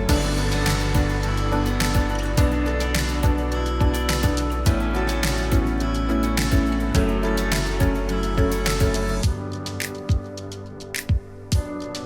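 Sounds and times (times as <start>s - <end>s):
background music with held chords: 0.0s - 12.0s.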